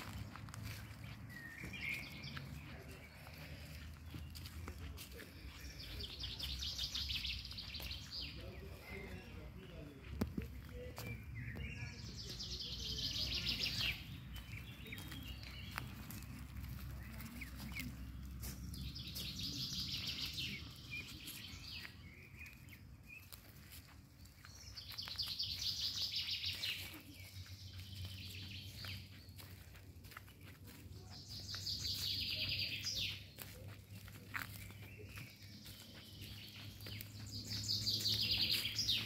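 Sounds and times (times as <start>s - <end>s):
footsteps on dry leaves: 0.0s - 39.0s.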